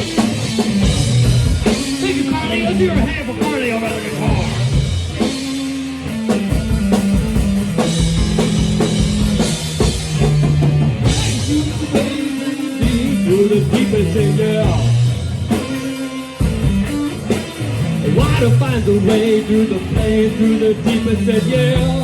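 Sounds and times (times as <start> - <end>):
drum kit: 0.0 - 22.0
guitar: 0.0 - 22.0.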